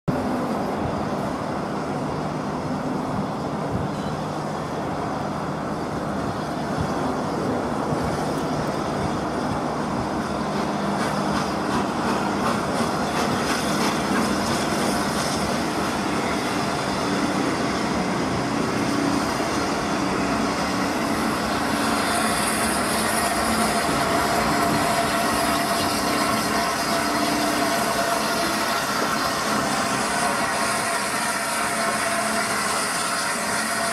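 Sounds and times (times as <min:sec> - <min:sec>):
train wheels rumbling on rails: 0:00.1 - 0:33.9.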